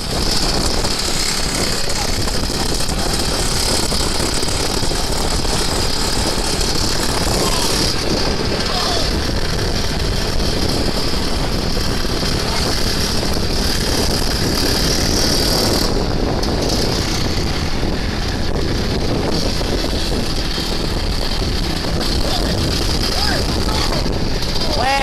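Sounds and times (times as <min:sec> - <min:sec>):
motorcycle engine running: 0:00.0 - 0:25.0
wind on microphone: 0:00.0 - 0:25.0.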